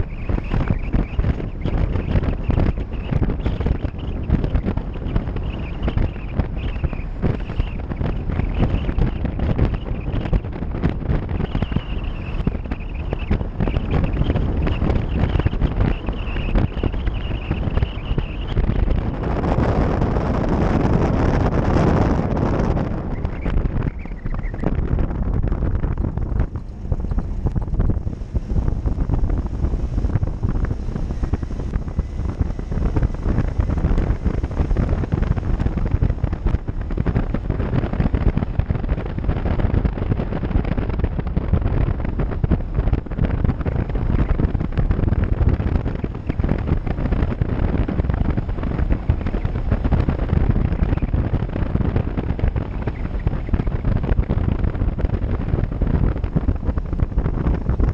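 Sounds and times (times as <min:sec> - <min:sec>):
off-road vehicle running: 0:00.0 - 0:57.9
wind buffeting microphone: 0:00.0 - 0:57.9.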